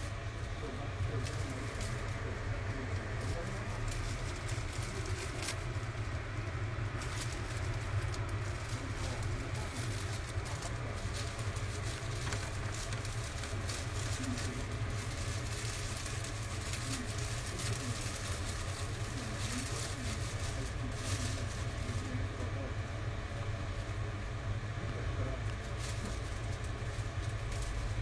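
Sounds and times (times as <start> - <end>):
plastic bag crinkling: 0.0 - 24.4, 25.1 - 28.0
low kitchen hum: 0.0 - 28.0.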